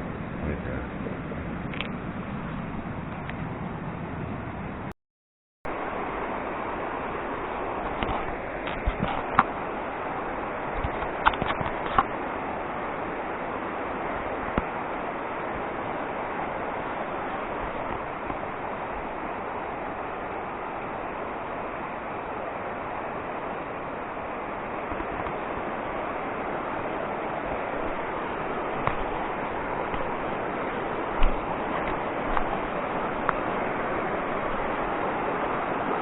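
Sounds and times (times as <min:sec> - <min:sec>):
steady rushing outdoor noise: 0:00.0 - 0:04.9, 0:05.7 - 0:36.0.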